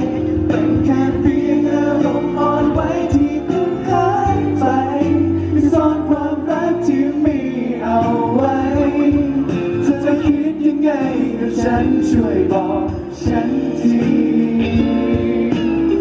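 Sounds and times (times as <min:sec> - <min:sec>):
live pop backing music: 0:00.0 - 0:16.0
person singing: 0:00.0 - 0:16.0.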